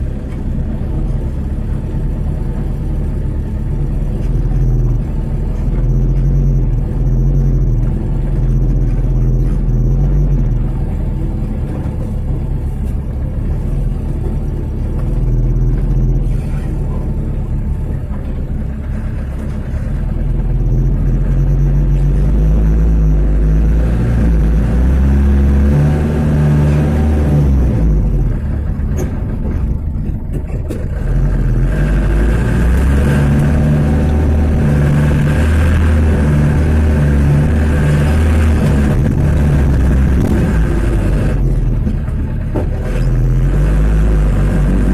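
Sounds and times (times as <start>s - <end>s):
diesel truck engine under load: 0.0s - 44.9s.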